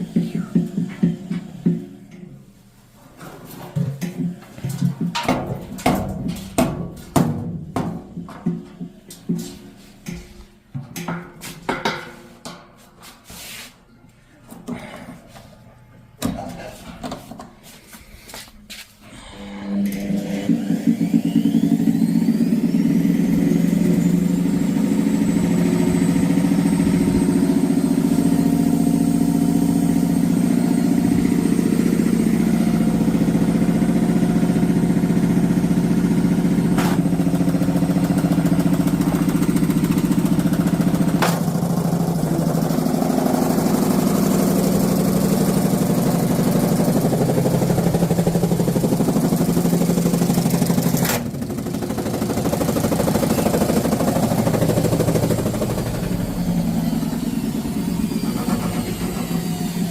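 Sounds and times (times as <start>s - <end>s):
washing machine motor whine: 0.0s - 10.8s, 19.0s - 59.9s.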